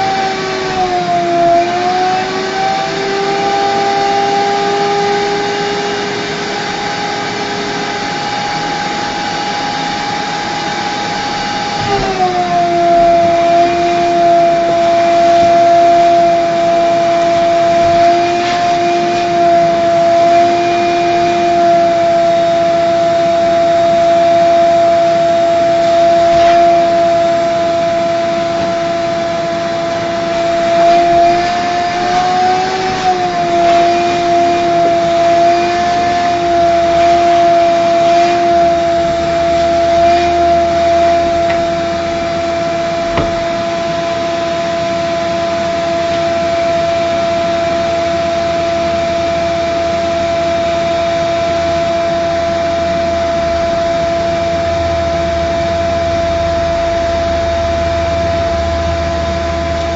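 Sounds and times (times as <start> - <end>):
vacuum cleaner whining: 0.0 - 59.9.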